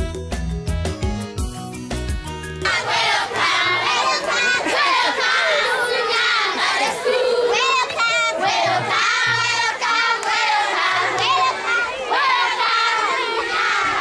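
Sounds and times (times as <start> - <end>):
children singing and shouting: 2.6 - 14.0.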